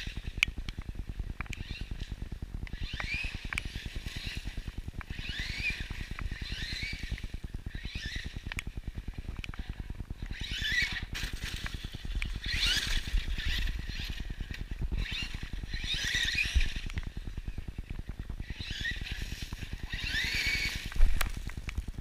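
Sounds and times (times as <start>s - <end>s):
rc truck electric motor whining: 0.0s - 22.0s
steady low rumble: 0.0s - 22.0s.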